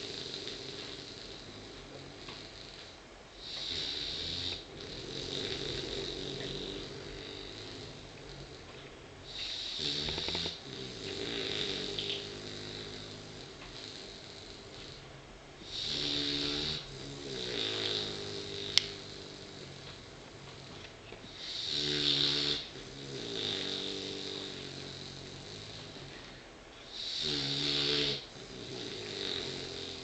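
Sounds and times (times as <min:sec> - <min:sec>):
soft long breaths: 0:00.0 - 0:27.4
puppy snoring: 0:00.0 - 0:30.0.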